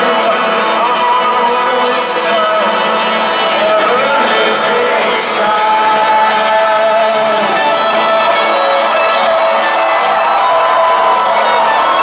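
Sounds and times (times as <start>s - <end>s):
live rock band: 0.0s - 12.0s
man singing: 0.0s - 12.0s.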